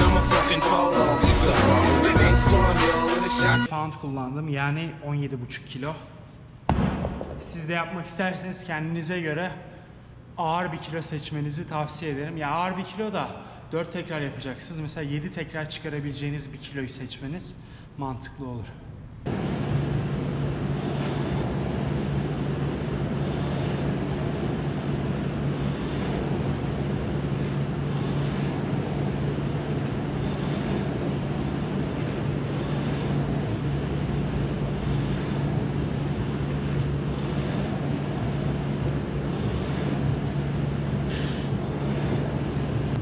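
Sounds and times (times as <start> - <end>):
rowing machine fan whirring: 0.0 - 43.0.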